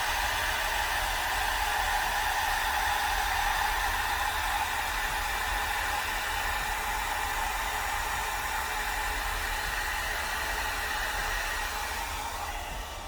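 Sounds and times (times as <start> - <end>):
hairdryer running: 0.0 - 13.0.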